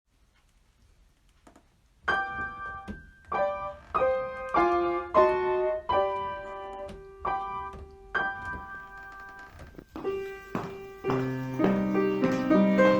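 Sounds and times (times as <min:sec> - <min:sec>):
piano chords and notes: 0:02.0 - 0:12.9.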